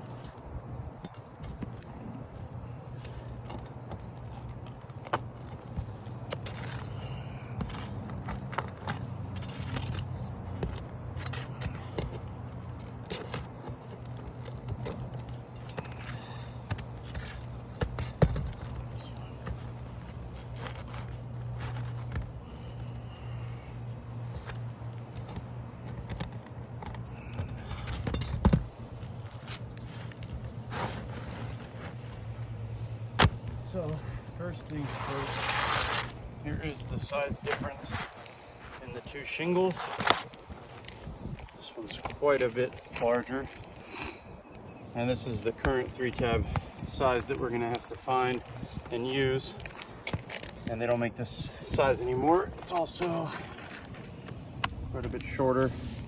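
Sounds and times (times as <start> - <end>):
tools scraping roof shingles: 0.0 - 44.1, 45.0 - 56.0
steady low hum: 0.0 - 56.0.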